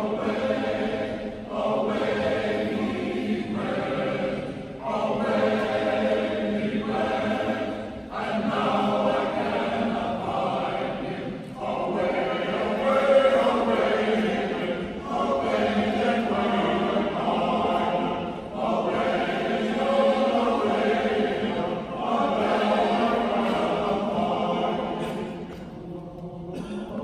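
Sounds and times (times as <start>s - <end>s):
men's chorus singing: 0.0s - 27.0s.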